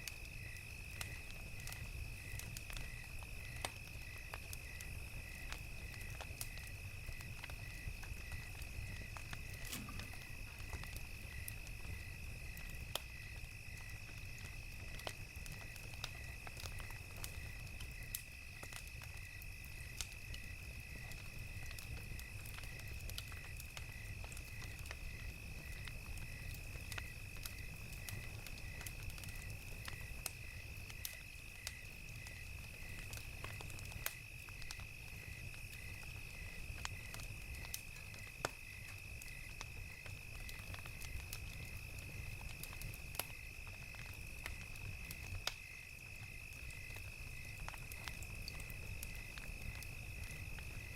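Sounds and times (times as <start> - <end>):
crickets chirping: 0.0 - 50.9
wood fire crackling: 0.0 - 50.9.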